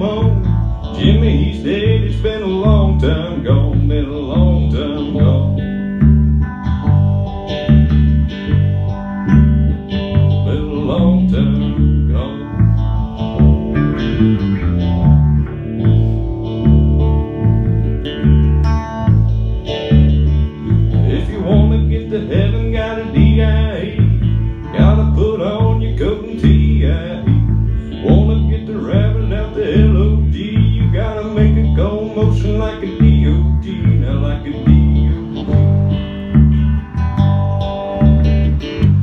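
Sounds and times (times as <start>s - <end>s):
electric bass pulse: 0.0s - 39.0s
electric guitar lead line: 0.0s - 39.0s.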